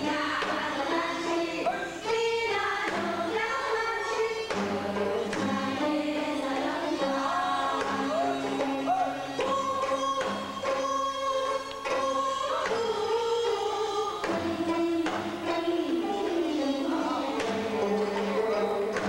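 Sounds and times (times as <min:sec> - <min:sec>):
women singing in unison: 0:00.0 - 0:19.0.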